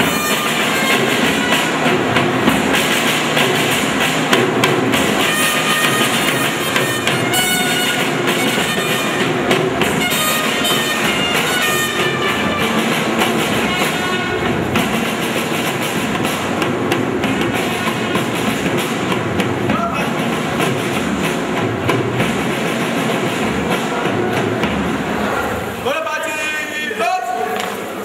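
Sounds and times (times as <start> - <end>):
loud music with percussive beat: 0.0 - 25.0.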